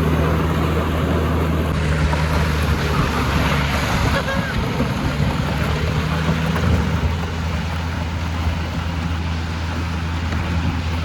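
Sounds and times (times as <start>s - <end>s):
canoe scraping across asphalt: 0.0s - 11.0s
car engine running at low speed: 0.0s - 11.0s.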